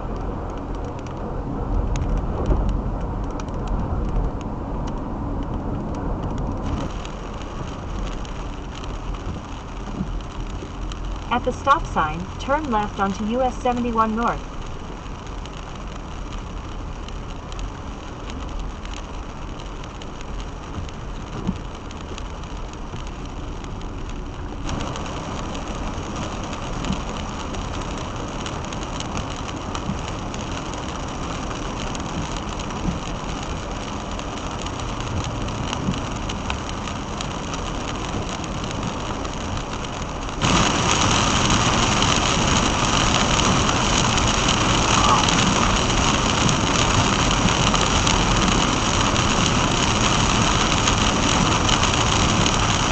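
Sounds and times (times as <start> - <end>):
rain on car body: 0.0 - 52.9.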